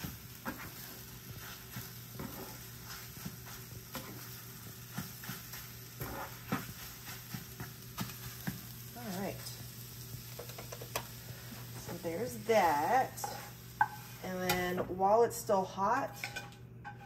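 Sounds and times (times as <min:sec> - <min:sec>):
spatula scraping a pan: 0:00.0 - 0:09.5, 0:10.2 - 0:14.8, 0:15.9 - 0:17.0
food sizzling in a pan: 0:00.0 - 0:17.0.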